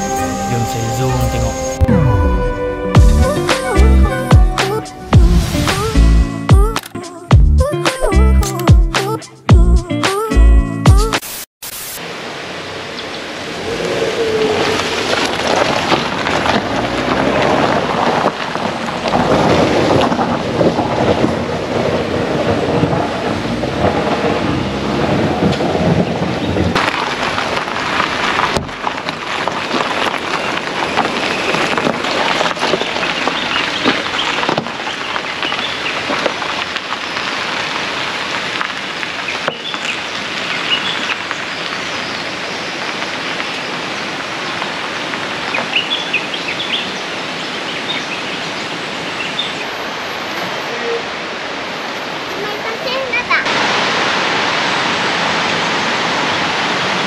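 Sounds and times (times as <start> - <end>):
rushing water: 11.2 - 57.0.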